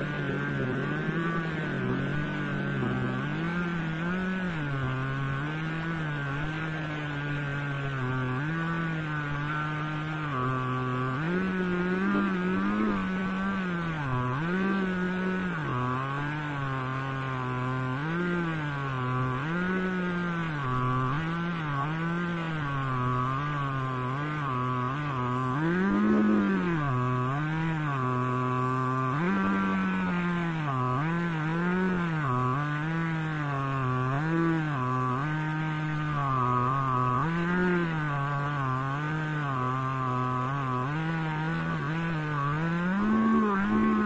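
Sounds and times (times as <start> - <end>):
chainsaw cutting log under load: 0.0 - 44.0.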